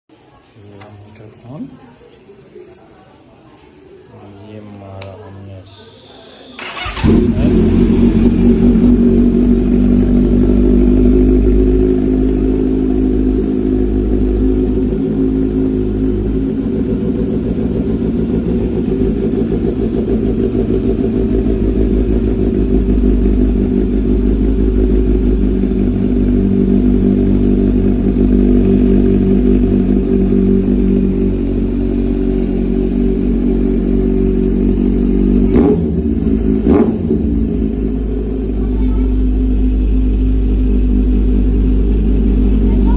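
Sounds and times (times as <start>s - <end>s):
motorcycle engine idling: 6.6s - 42.9s.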